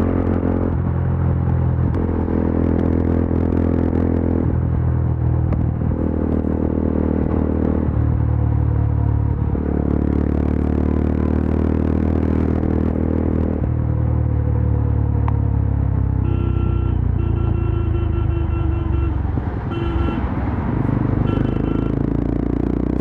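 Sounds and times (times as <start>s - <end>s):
motorcycle engine and exhaust: 0.0s - 23.0s.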